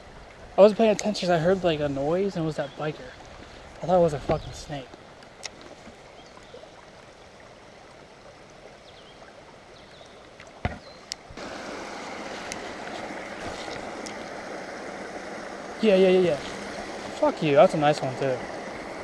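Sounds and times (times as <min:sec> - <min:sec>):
mountain stream running: 0:00.0 - 0:19.0.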